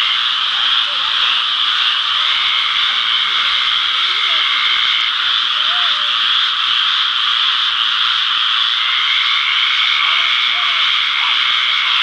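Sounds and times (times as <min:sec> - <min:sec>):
frogs chorus: 0:00.0 - 0:12.0
thin steady tone: 0:00.0 - 0:12.0.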